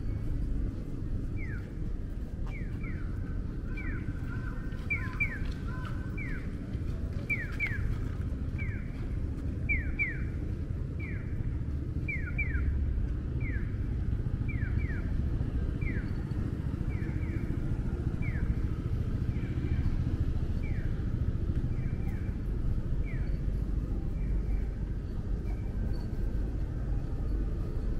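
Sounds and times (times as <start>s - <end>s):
street traffic rumble: 0.0s - 27.9s.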